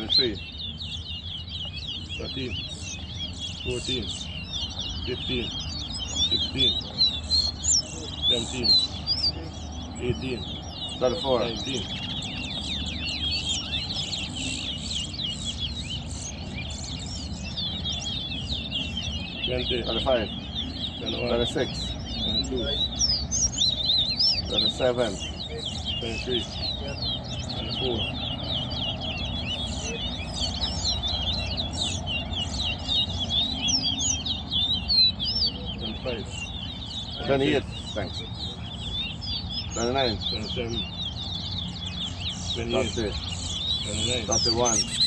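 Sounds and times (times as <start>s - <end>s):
finches singing high whistles: 0.0s - 45.0s.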